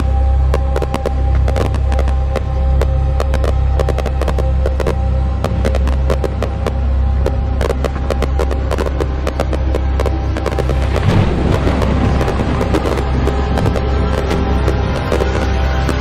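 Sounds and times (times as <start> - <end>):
fireworks cracking and popping: 0.0 - 16.0
music with deep bass: 0.0 - 16.0.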